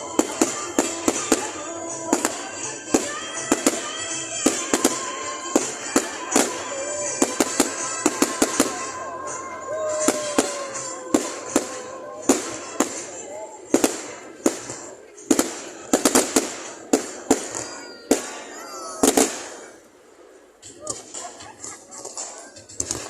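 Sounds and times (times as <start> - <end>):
fireworks bangs and cracks: 0.0 - 19.9, 20.6 - 23.0
fireworks crackle: 0.0 - 23.0.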